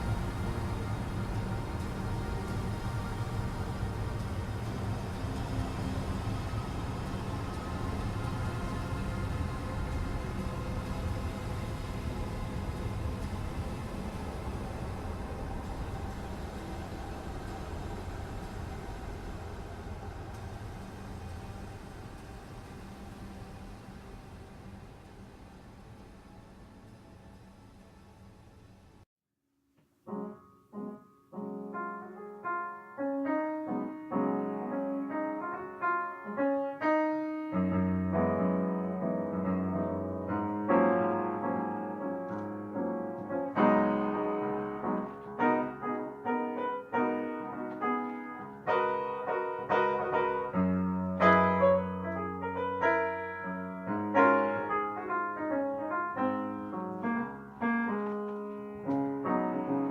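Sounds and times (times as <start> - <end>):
solo piano piece: 0.0 - 24.2, 30.0 - 59.9.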